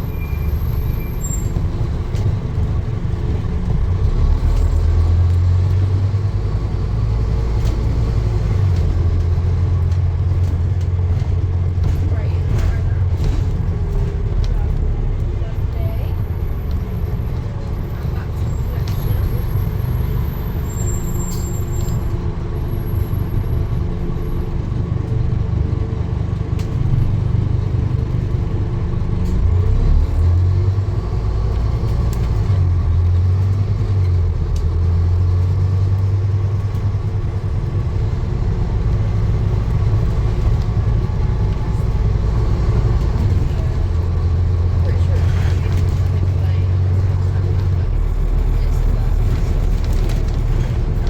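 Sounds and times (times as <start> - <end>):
vehicle engine rumble: 0.0 - 51.0.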